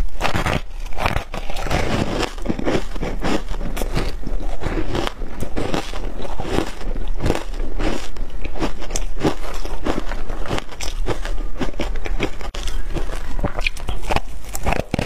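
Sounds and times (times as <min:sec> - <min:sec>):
crunching and chewing shaved ice: 0:00.0 - 0:15.0.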